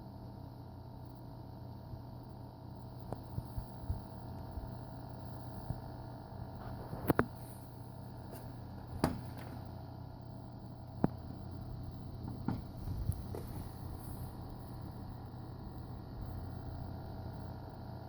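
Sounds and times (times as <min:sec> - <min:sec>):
power supply coil whine buzz: 0:00.0 - 0:18.0.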